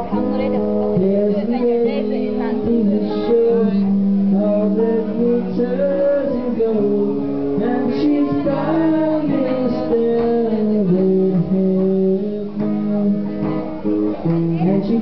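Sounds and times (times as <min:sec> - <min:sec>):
man singing into microphone: 0:00.0 - 0:13.6, 0:14.3 - 0:15.0
acoustic guitar: 0:00.0 - 0:15.0.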